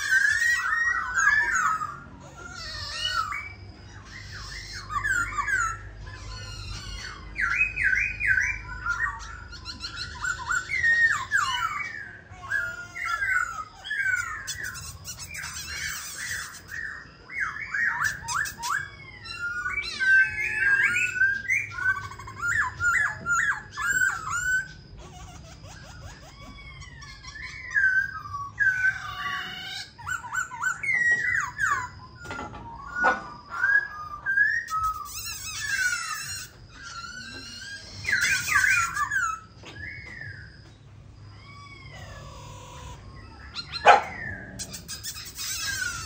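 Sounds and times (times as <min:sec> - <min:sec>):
bird singing whistled phrases: 0:00.0 - 0:24.8, 0:25.7 - 0:46.0.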